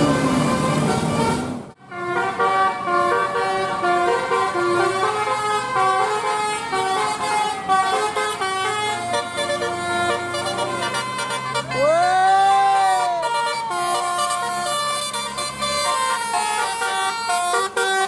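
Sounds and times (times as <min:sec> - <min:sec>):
bus air horn playing a tune: 0:00.0 - 0:18.0.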